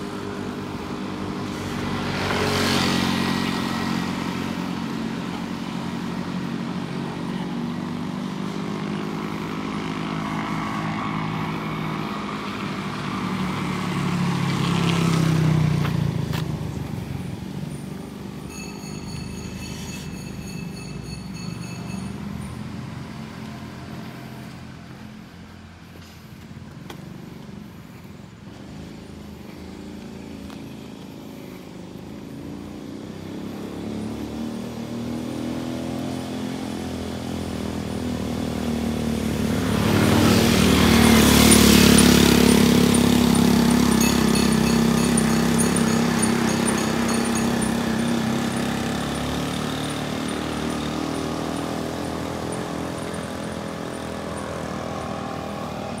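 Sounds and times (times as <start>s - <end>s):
motorcycle passing: 0.0s - 56.0s.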